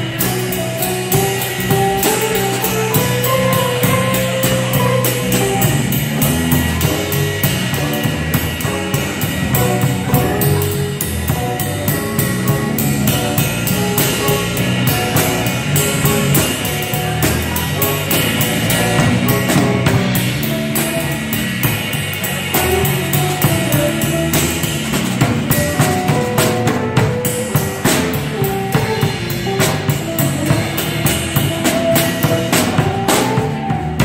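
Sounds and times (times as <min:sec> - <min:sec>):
jazz band instrumental: 0:00.0 - 0:34.0.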